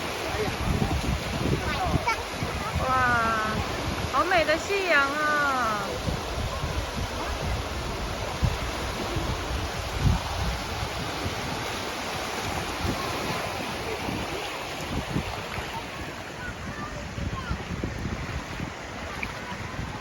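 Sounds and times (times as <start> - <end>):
sea surf on a beach: 0.0 - 20.0
wind buffeting microphone: 0.0 - 20.0.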